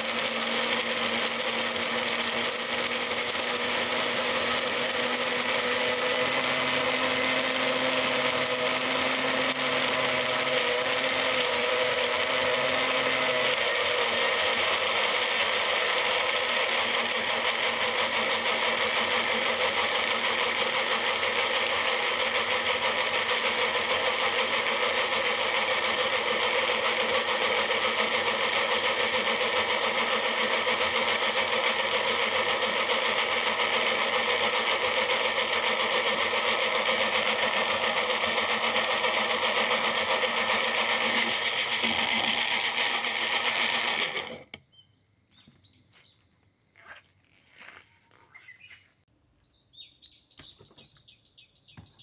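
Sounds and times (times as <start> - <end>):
blender motor running: 0.0 - 44.6.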